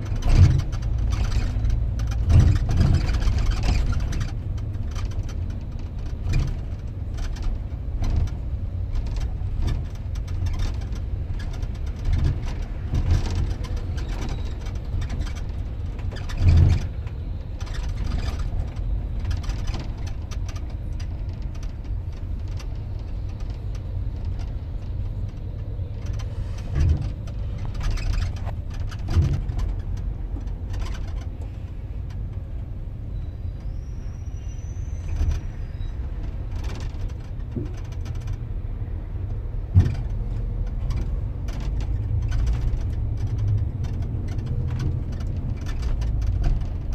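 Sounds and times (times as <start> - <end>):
knocks and bumps through bus body: 0.0 - 33.9, 35.0 - 46.9
bus engine rumble and road noise: 0.0 - 46.9.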